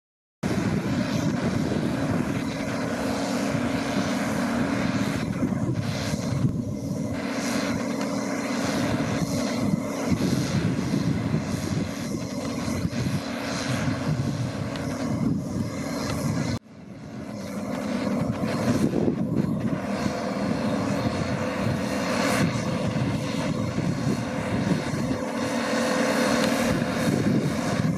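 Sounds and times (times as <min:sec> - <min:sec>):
combine harvester running: 0:00.4 - 0:27.9.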